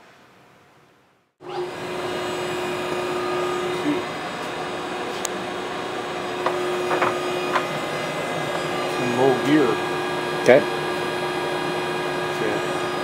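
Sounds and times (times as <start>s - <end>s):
lathe motor and gearbox drone: 1.4s - 13.0s.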